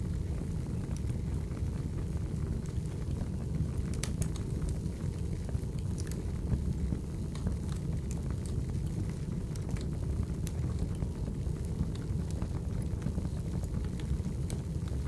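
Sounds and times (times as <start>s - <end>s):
low rumble of flames: 0.0s - 15.0s
firewood crackling and popping: 0.1s - 15.0s.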